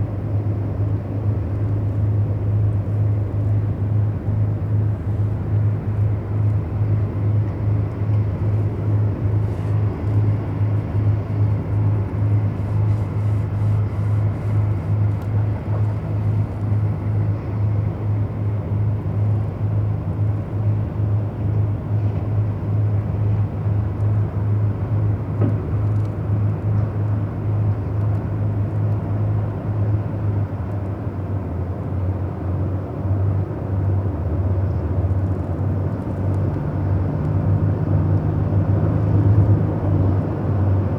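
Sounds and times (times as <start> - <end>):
low engine drone: 0.0 - 40.9.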